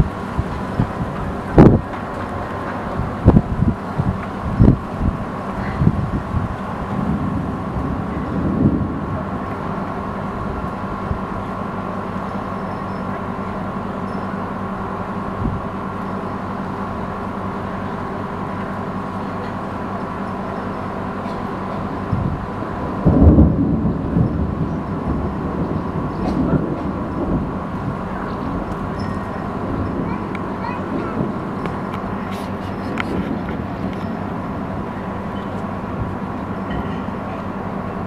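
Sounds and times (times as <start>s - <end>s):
steady low hum: 0.0s - 38.0s
thunder rumbling: 0.0s - 38.0s.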